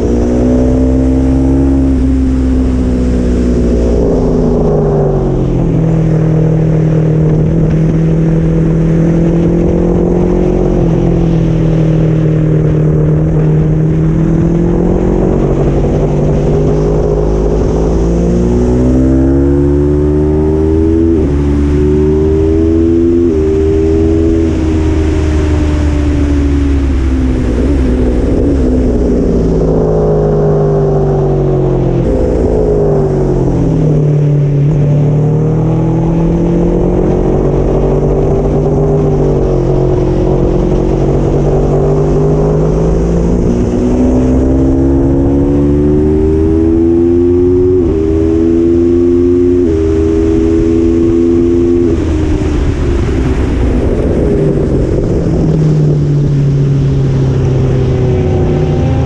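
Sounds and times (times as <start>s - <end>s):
motorcycle engine at full pace: 0.0s - 59.0s.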